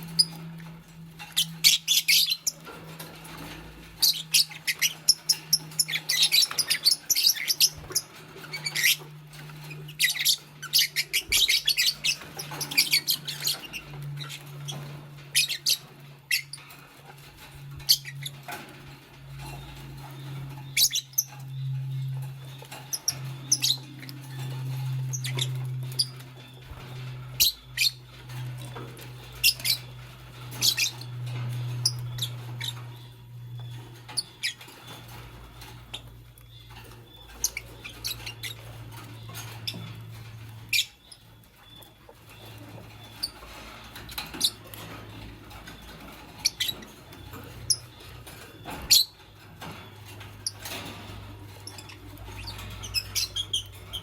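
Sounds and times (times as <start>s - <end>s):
lovebirds chirping: 0.0s - 54.0s
steady low hum: 0.0s - 54.0s.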